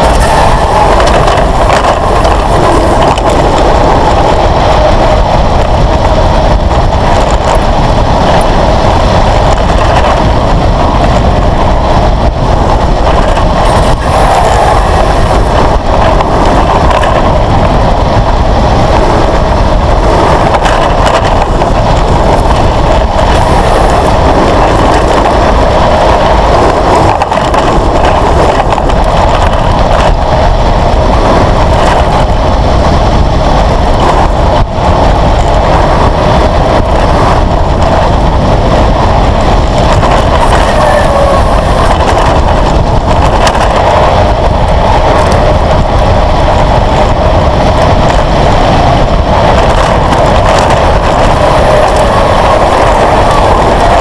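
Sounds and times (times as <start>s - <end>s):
tyres rolling on asphalt: 0.0s - 54.0s
wind rushing on microphone: 0.0s - 54.0s.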